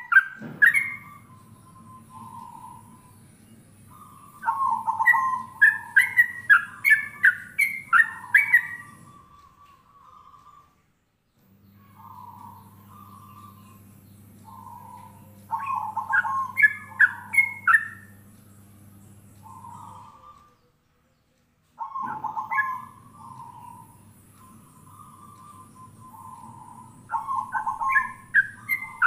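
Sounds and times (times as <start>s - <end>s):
bulbul whistled calls: 0.0s - 10.8s, 11.8s - 18.5s, 19.3s - 20.8s, 21.8s - 29.0s
dove cooing: 0.0s - 10.8s, 11.8s - 20.6s, 21.8s - 29.0s
low steady hum: 0.0s - 29.0s.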